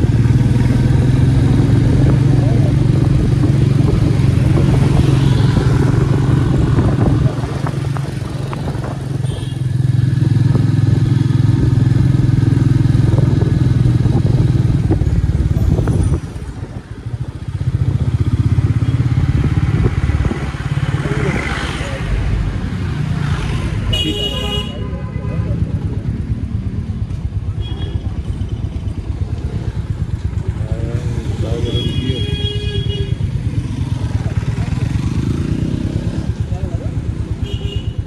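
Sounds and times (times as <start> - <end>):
motorcycle engine running: 0.0 - 22.0, 25.4 - 38.0.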